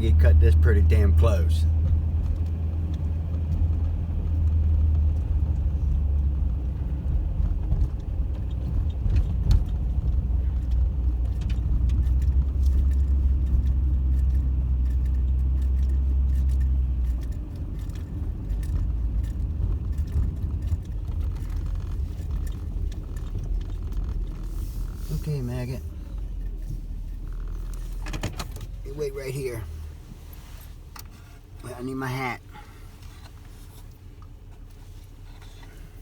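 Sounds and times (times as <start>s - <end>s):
engine and road drone: 0.0s - 36.0s
light clicks and rattles: 0.9s - 31.8s.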